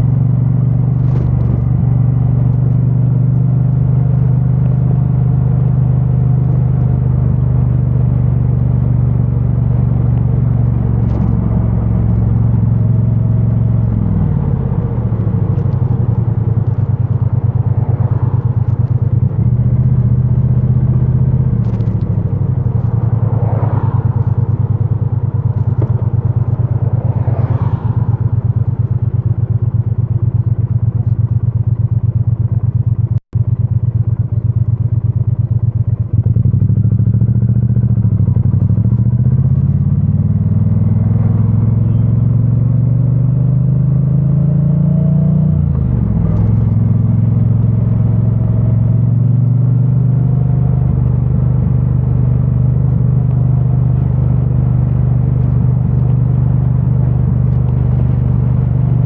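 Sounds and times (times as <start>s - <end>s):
muffled motorcycle engine riding: 0.0s - 59.0s.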